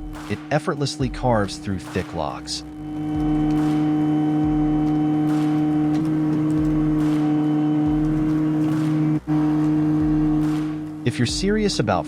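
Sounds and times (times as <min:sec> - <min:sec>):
tractor engine running: 0:00.0 - 0:11.8
log splitter drone: 0:00.0 - 0:12.0.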